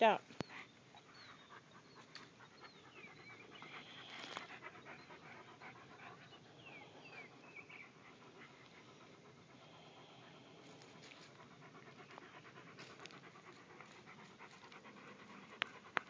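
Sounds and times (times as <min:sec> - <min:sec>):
dogs panting: 0:00.0 - 0:16.0.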